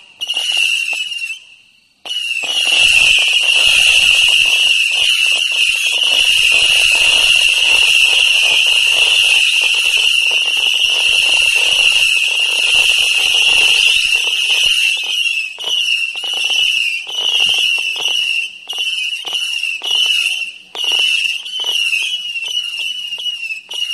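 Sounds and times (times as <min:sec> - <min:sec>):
whistling fireworks: 0:00.0 - 0:23.9.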